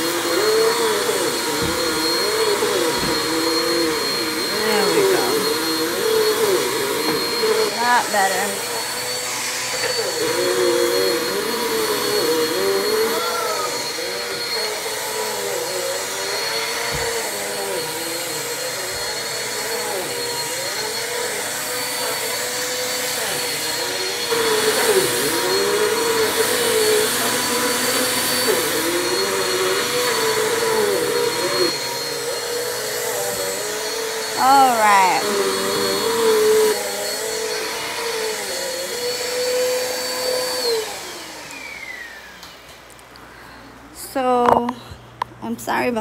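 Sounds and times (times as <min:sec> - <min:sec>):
upright vacuum cleaner running: 0:00.0 - 0:46.0.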